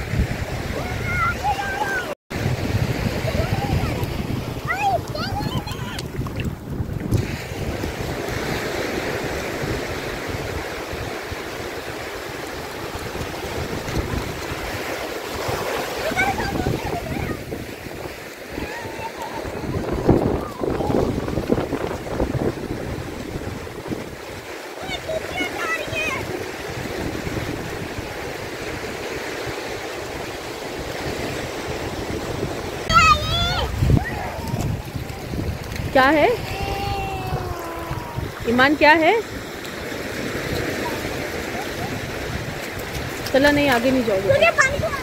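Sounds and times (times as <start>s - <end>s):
sea waves breaking on beach: 0.0s - 45.0s.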